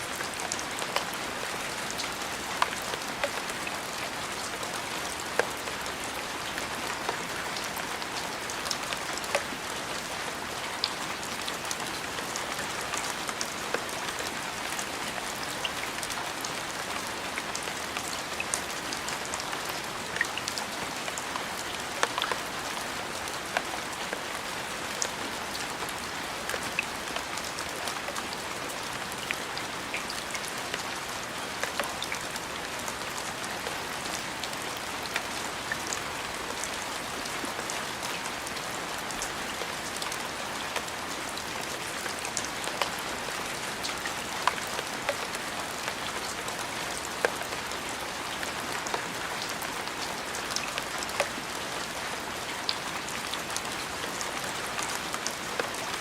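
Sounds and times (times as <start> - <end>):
steady rain falling: 0.0 - 56.0
raindrops ticking on surface: 0.1 - 56.0.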